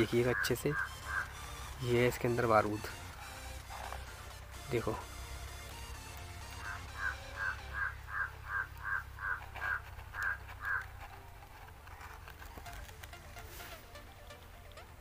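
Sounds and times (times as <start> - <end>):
bird calling: 0.0 - 12.8.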